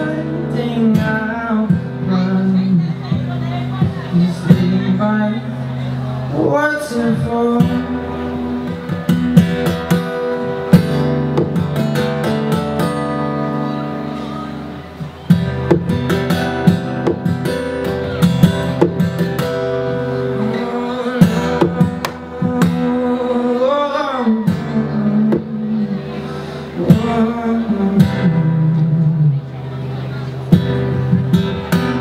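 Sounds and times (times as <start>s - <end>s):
percussive acoustic guitar: 0.0s - 32.0s.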